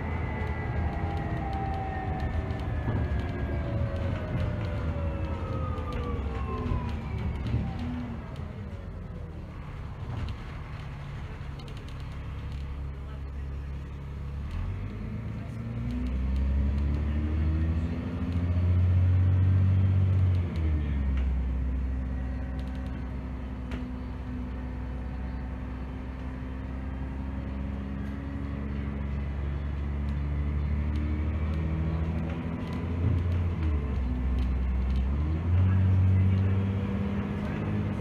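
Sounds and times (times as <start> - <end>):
bus diesel engine accelerating: 0.0 - 38.0.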